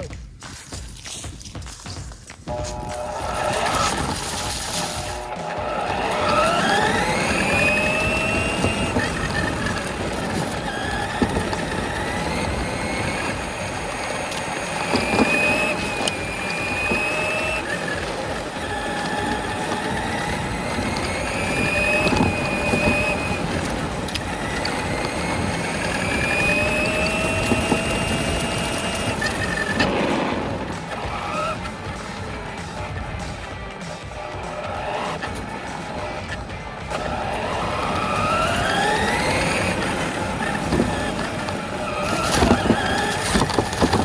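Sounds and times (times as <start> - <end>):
tyres rattling on rough ground: 0.0 - 44.0
rc truck motor whining: 2.5 - 44.0.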